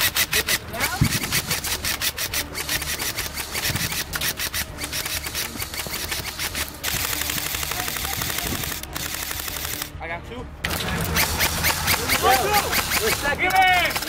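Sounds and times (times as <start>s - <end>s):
airsoft rifles firing bursts: 0.0s - 10.0s, 10.6s - 14.0s.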